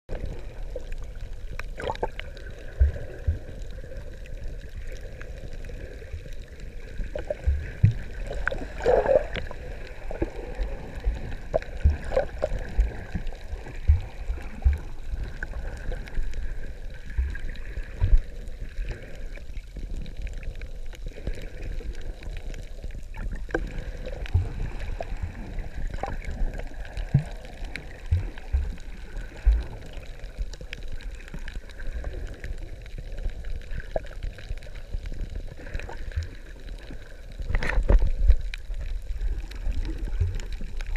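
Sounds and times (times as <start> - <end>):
underwater low rumble: 0.1 - 40.9.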